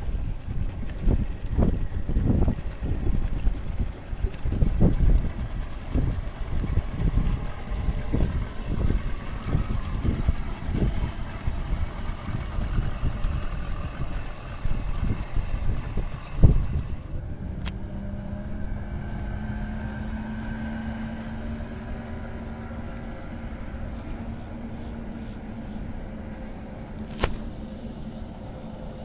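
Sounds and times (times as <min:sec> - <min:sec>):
boat engine running: 0:00.0 - 0:29.0
wind buffeting microphone: 0:00.0 - 0:29.0.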